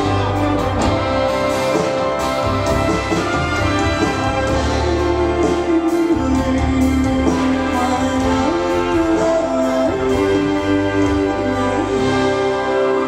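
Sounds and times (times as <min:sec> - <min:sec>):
symphony orchestra playing: 0:00.0 - 0:13.0.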